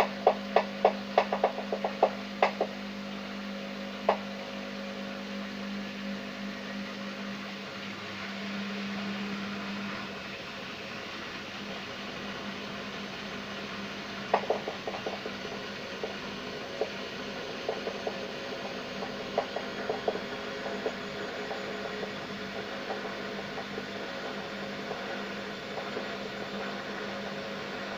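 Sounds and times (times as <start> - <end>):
washing machine spinning: 0.0 - 27.9.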